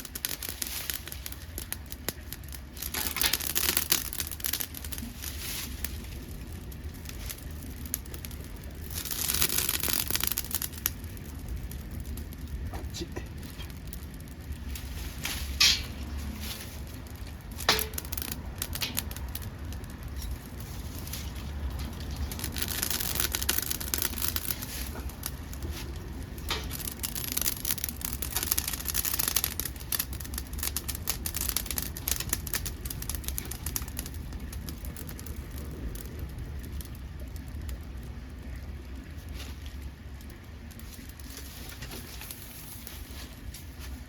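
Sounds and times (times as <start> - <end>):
fire crackling with sharp pops: 0.0 - 44.0
wood burning in a stove: 0.0 - 44.0.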